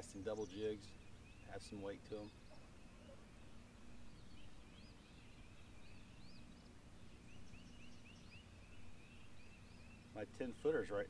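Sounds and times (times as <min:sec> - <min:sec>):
faint birdsong chirping: 0:00.0 - 0:11.0
low steady hum: 0:00.0 - 0:11.0.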